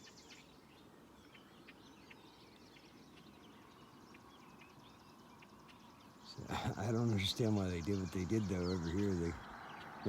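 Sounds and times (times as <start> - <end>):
distant bird chirps: 0.0 - 10.0.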